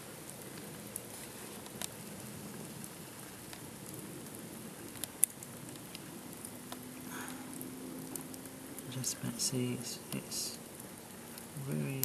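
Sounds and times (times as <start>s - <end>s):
campfire crackling: 0.0s - 12.0s
sharp fire snaps: 0.0s - 12.0s.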